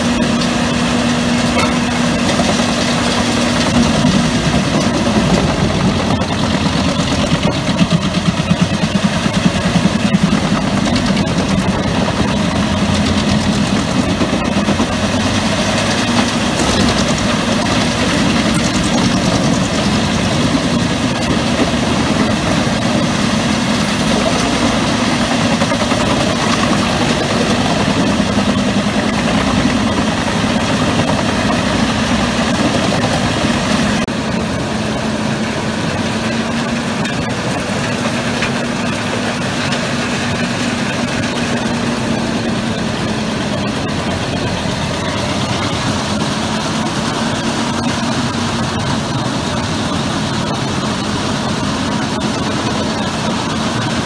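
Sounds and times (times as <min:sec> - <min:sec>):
wood chipper chipping logs: 0:00.0 - 0:54.0.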